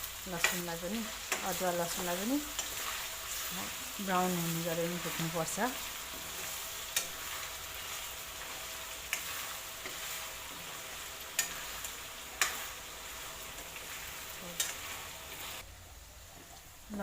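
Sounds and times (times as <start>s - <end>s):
paste sizzling in hot oil: 0.0s - 15.7s.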